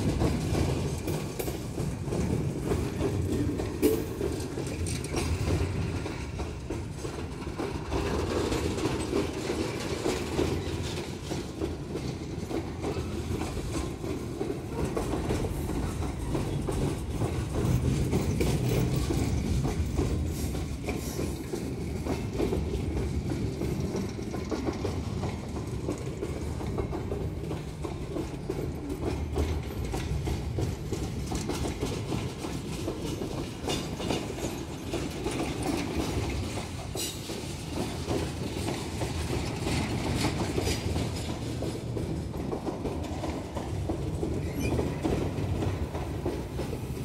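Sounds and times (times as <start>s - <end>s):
freight train wheels rumbling: 0.0s - 47.0s
wheels clicking over rail joints: 0.0s - 47.0s.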